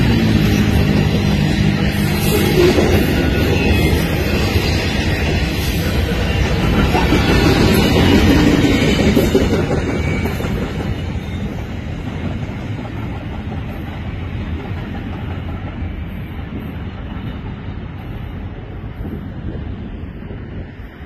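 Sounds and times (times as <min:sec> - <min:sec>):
freight train rolling on rails: 0:00.0 - 0:21.0.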